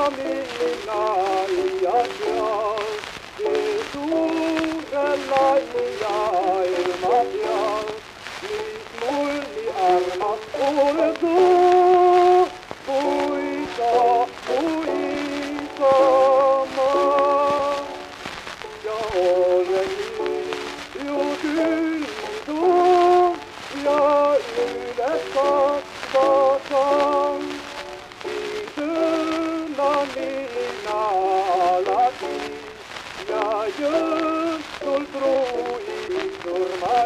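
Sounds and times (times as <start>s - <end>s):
solo voice singing hymn: 0.0s - 18.1s, 18.8s - 27.6s, 28.6s - 37.0s
record crackle and hiss: 0.0s - 37.0s.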